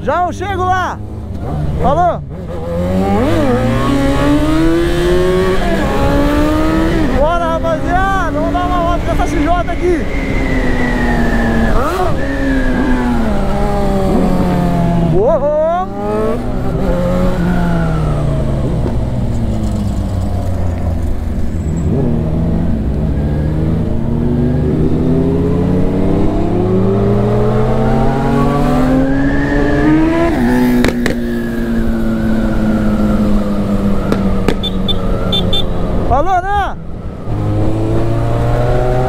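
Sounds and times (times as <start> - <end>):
motorcycle engine accelerating: 0.9 - 36.2, 36.9 - 39.0.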